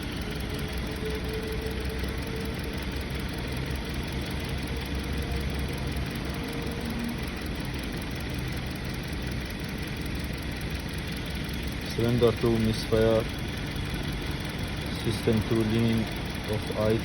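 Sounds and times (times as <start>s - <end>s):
car engine idling with misfire: 0.0s - 17.0s.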